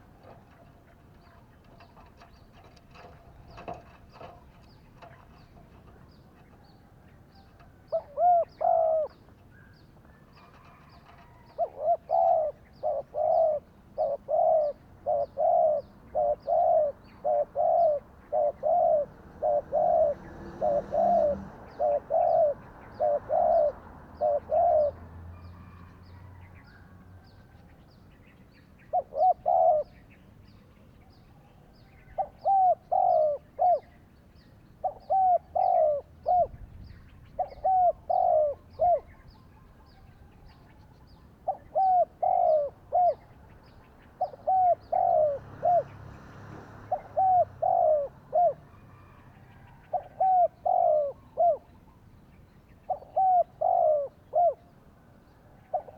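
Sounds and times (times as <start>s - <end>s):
dove cooing: 0.0s - 26.9s, 28.9s - 30.1s, 32.0s - 34.1s, 34.8s - 36.7s, 37.4s - 40.7s, 41.3s - 51.8s, 52.8s - 54.7s, 55.5s - 55.9s.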